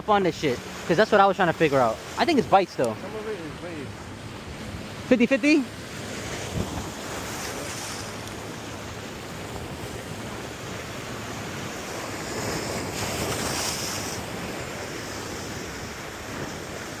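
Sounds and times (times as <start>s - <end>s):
surf washing against rocks: 0.0s - 17.0s
wind buffeting microphone: 0.6s - 17.0s.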